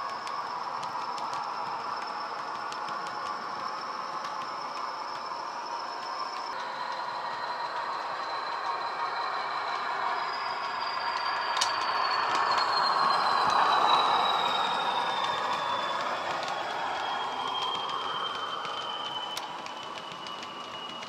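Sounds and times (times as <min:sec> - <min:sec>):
diesel locomotive engine sound: 0:00.0 - 0:21.0
high turbocharger whistle: 0:00.0 - 0:21.0.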